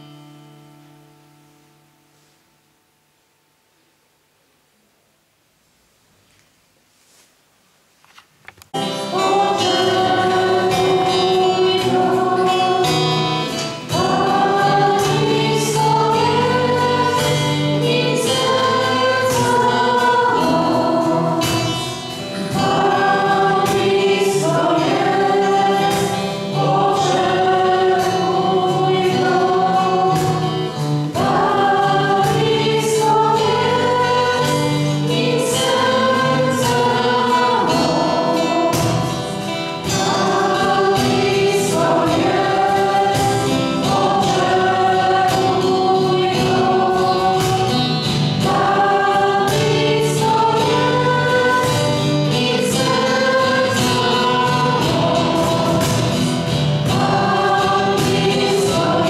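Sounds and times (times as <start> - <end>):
choir singing: 8.8 - 59.0.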